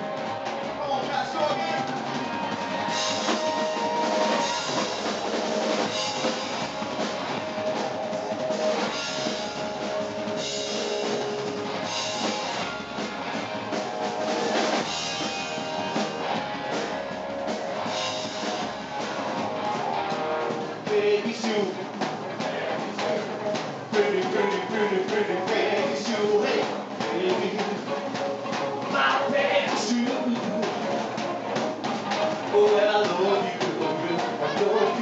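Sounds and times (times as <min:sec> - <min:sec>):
drum kit: 0:00.0 - 0:35.0
electric guitar: 0:00.0 - 0:35.0.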